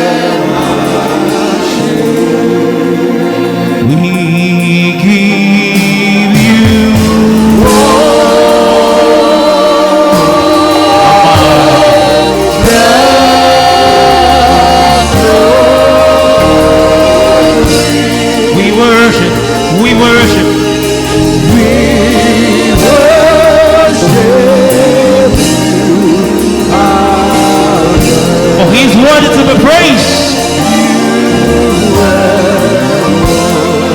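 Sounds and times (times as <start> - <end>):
gospel choir singing: 0.0 - 33.9
instrumental backing with beat: 0.0 - 33.9
lead voice singing: 0.0 - 33.9.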